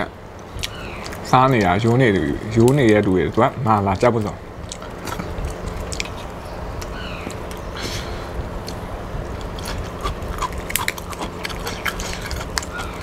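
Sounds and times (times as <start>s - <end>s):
lobster shell cracking: 0.5s - 7.7s, 9.4s - 13.0s
chewing: 0.5s - 13.0s.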